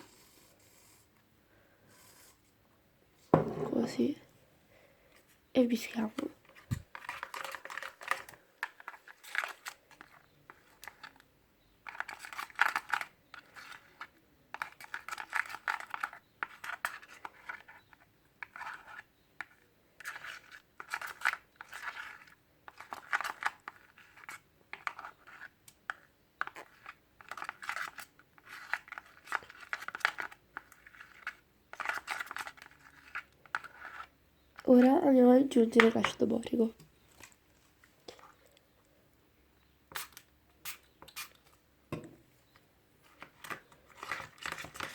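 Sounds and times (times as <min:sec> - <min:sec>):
slime being stirred and scraped: 0:00.0 - 0:01.2, 0:01.9 - 0:02.6, 0:05.8 - 0:38.6, 0:39.9 - 0:41.6, 0:43.0 - 0:44.9.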